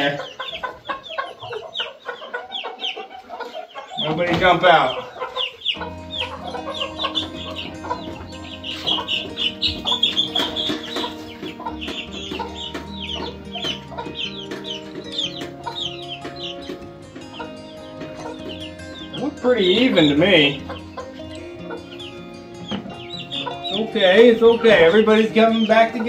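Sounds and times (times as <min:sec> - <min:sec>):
background music: 0:00.0 - 0:26.0
chicks peeping: 0:00.0 - 0:26.0.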